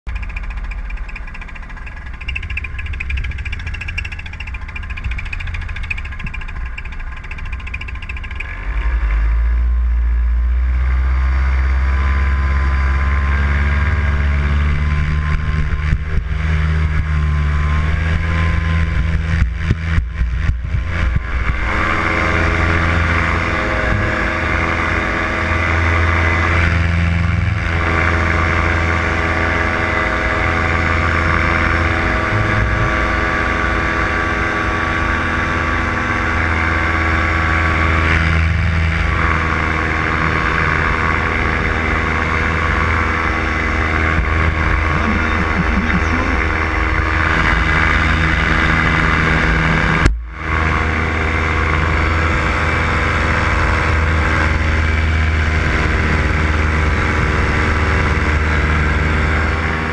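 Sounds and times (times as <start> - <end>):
paramotor engine and propeller: 0.1 - 59.9.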